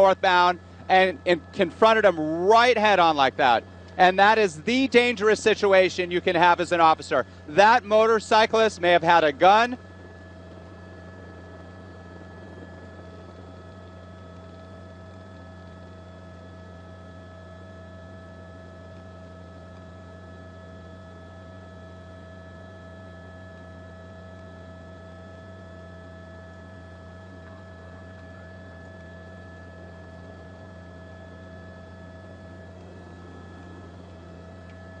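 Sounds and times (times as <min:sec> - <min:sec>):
electrical hum: 0:00.0 - 0:35.0
faint whining tones: 0:00.0 - 0:35.0.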